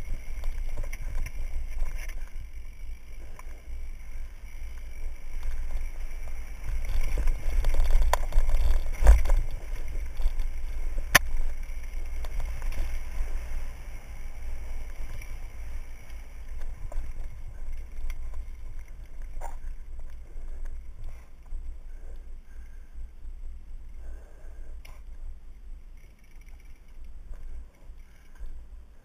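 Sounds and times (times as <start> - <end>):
mountain bike rattling: 0.0 - 23.9, 24.8 - 29.0.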